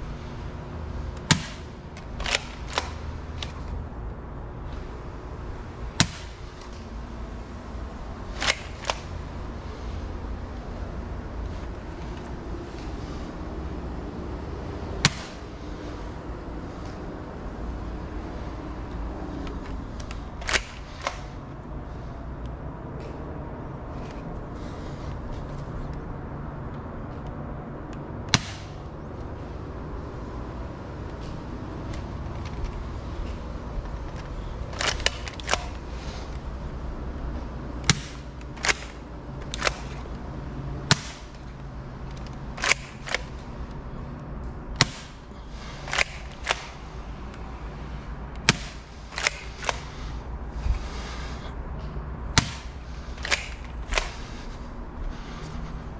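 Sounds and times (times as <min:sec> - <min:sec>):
low background hum: 0:00.0 - 0:55.9.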